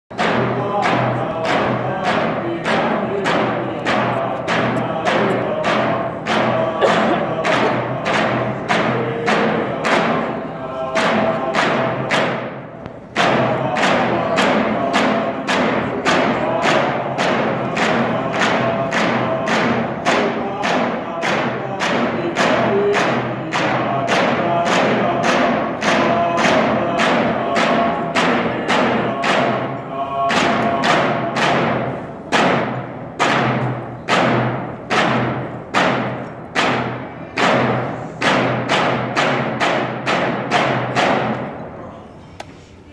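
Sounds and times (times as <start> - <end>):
frame drums beaten: 0.1 - 41.9
group singing a chant: 0.1 - 42.2.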